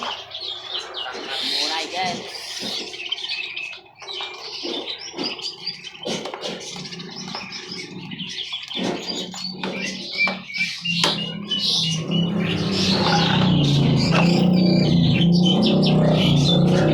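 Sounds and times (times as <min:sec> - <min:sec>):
songbirds chirping: 0:00.0 - 0:16.9.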